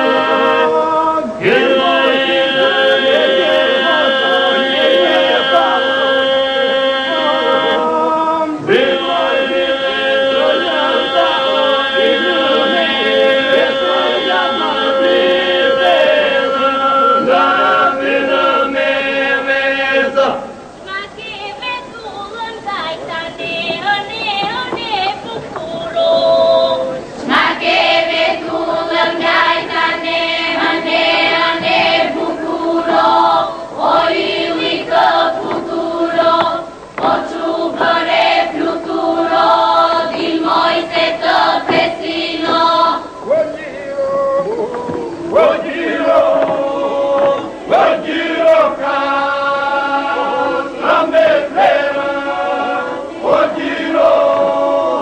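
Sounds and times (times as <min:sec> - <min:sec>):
choir singing over a drone: 0:00.0 - 0:55.0.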